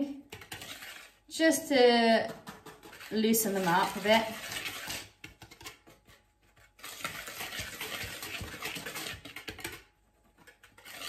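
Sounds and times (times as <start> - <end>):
whisk scraping through powder: 0.0 - 11.0.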